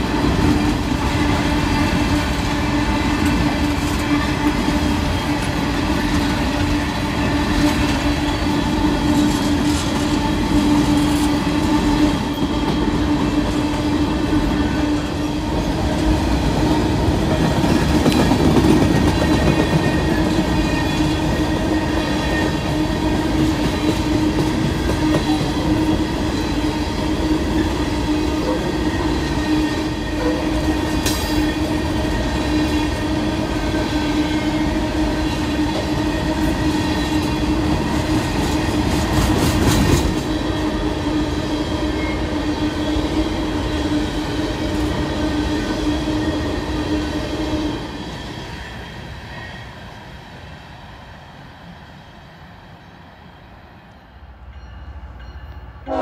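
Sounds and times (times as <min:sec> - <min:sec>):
train wheels clattering on rails: 0:00.0 - 0:49.3.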